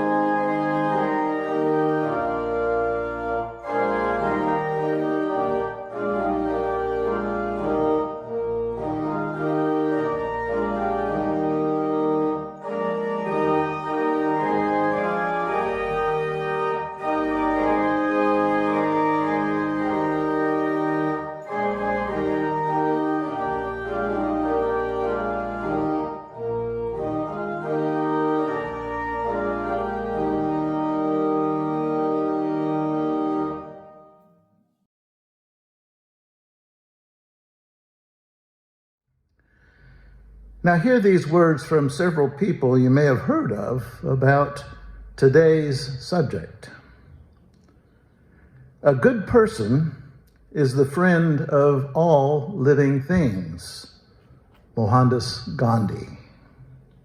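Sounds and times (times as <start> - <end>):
organ playing sustained chords: 0.0 - 34.4, 39.7 - 57.0.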